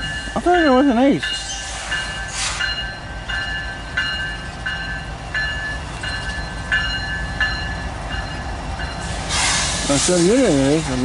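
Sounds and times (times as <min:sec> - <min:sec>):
train bell ringing: 0:00.0 - 0:09.2
diesel locomotives rumbling: 0:00.0 - 0:11.0.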